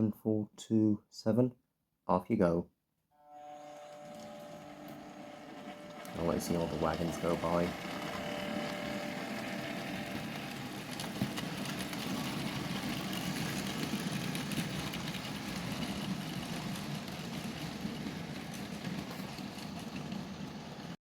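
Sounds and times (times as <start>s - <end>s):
model train motor humming: 3.3s - 20.9s
small wheels rattling on rail: 4.0s - 21.0s.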